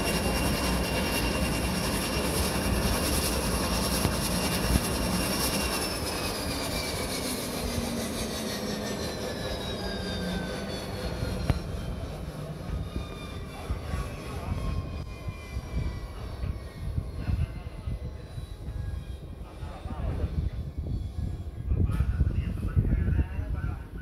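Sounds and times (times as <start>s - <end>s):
high engine whine: 0.0s - 24.0s
turboprop engines running: 0.0s - 24.0s.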